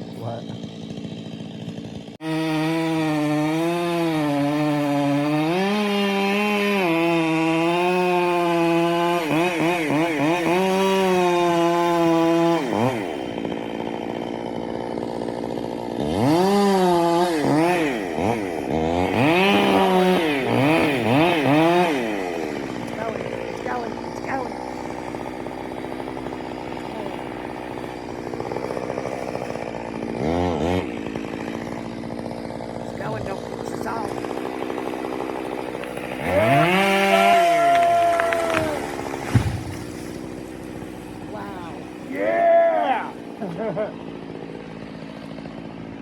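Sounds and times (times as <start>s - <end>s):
chainsaw running: 0.0s - 46.0s.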